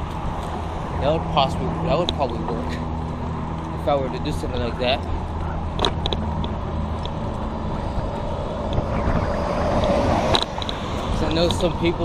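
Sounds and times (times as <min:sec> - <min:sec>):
vehicle engine humming: 0:00.0 - 0:12.0
vehicle rushing by: 0:00.0 - 0:12.0.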